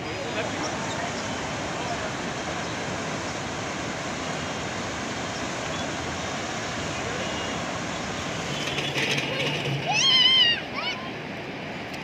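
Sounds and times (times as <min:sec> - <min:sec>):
flooded river rushing: 0:00.0 - 0:12.0.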